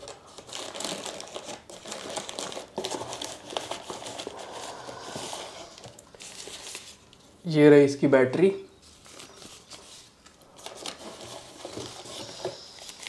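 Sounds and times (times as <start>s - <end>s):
packing wrap crinkling: 0.0s - 7.2s, 8.9s - 13.0s.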